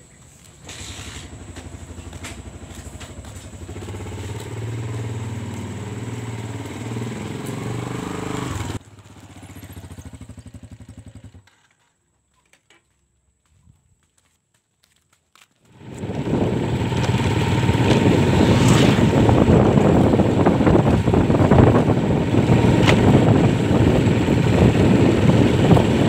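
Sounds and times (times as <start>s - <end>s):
scooter engine running: 0.2s - 11.8s, 15.7s - 26.0s.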